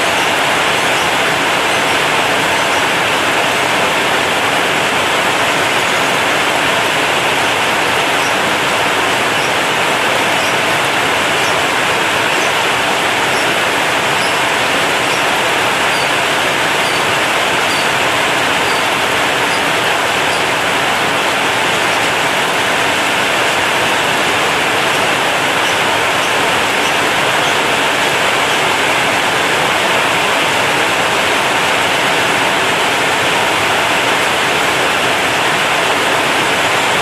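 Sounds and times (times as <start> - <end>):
heavy rain on a metal roof: 0.0 - 37.0.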